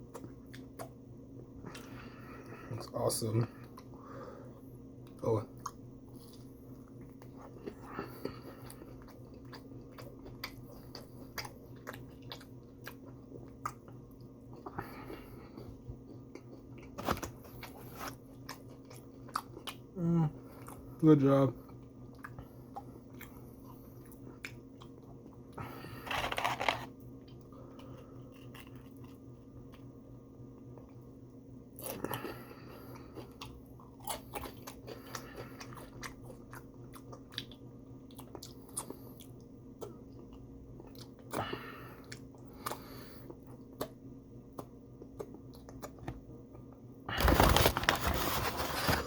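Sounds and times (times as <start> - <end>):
chewing and crunching food: 0.0 - 49.0
steady low hum: 0.0 - 49.0.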